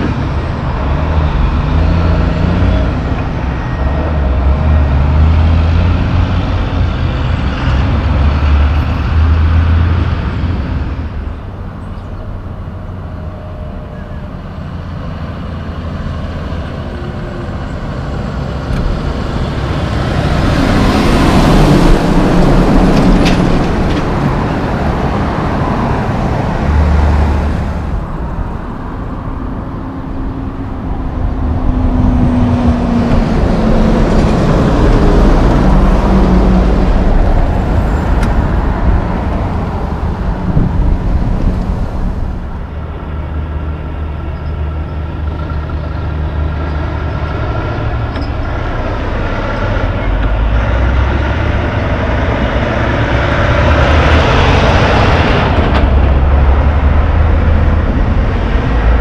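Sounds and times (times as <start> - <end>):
heavy diesel trucks driving past: 0.0 - 59.0
other traffic: 0.0 - 59.0.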